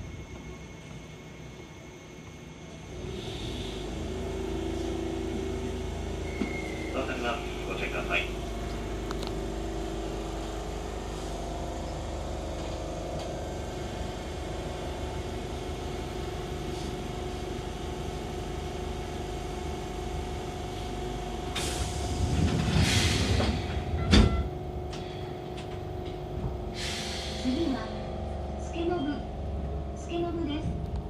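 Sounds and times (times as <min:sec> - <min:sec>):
electric train motor hum: 0:00.0 - 0:31.0.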